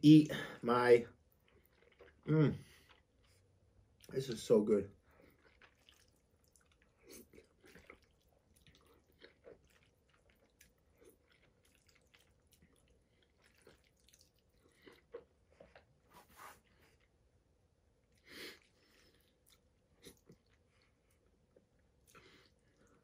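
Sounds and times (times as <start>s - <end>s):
faint chewing: 1.2s - 17.4s, 18.0s - 23.0s.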